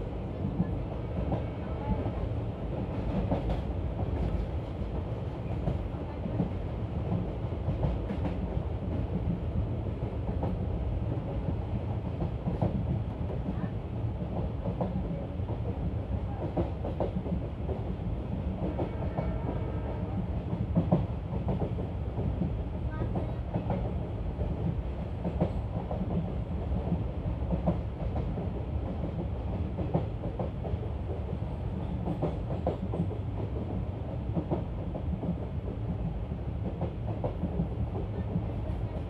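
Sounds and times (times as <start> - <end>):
rail clicks and clacks: 0.0 - 39.0
train wheels rumbling on rails: 0.0 - 39.0.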